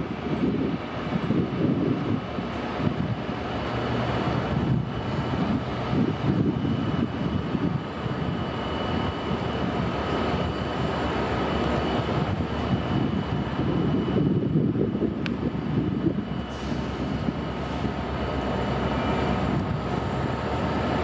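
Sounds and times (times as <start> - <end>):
diesel locomotives rumbling: 0.0 - 21.0
faint high whine: 0.0 - 21.0.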